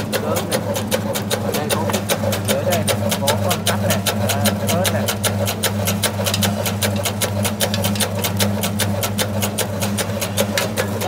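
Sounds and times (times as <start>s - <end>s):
motor hum: 0.0s - 11.0s
rapid even clicking: 0.0s - 11.0s.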